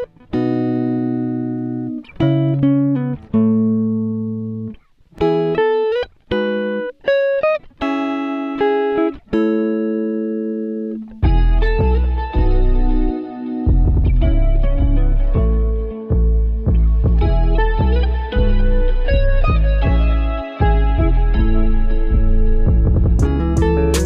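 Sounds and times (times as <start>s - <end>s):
plucked guitar chords: 0.0s - 24.0s.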